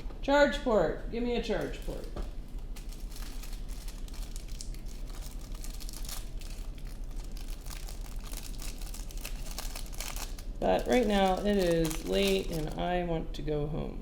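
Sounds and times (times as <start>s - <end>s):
low steady hum: 0.0s - 14.0s
plastic crinkling: 1.6s - 12.8s.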